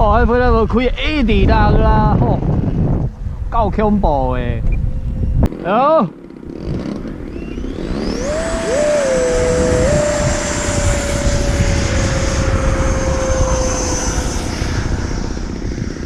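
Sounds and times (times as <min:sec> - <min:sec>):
wind whistling tone: 0:00.0 - 0:05.7, 0:06.4 - 0:16.0
strong wind buffeting: 0:00.0 - 0:16.0.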